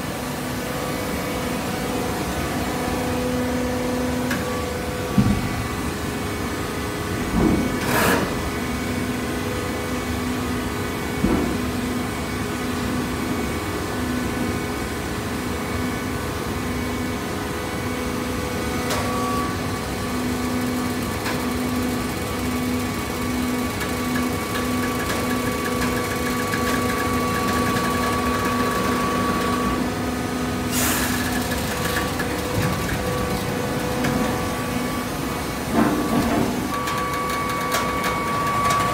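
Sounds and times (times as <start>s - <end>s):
baler machine hum with whine: 0.0s - 38.9s.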